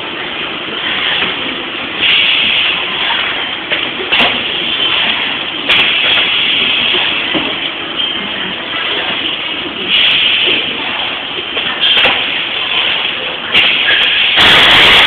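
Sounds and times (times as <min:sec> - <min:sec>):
welding machine hissing: 0:00.8 - 0:07.5, 0:08.9 - 0:15.0.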